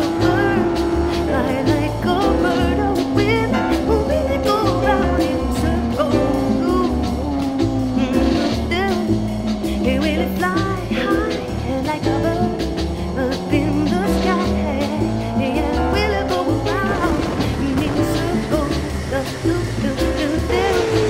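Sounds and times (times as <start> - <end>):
song with pulsing bass line: 0.0 - 21.0.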